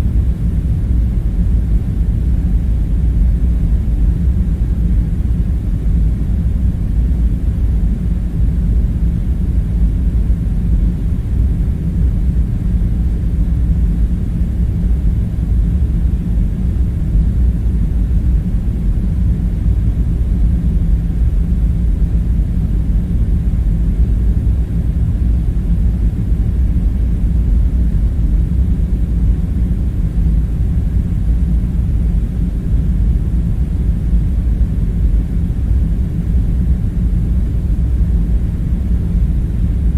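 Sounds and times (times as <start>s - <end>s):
low background rumble: 0.0s - 39.9s.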